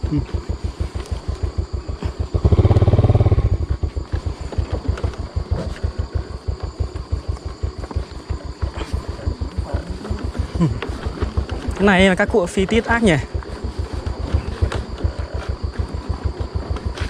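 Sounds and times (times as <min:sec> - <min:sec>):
motorcycle engine chugging: 0:00.0 - 0:17.0.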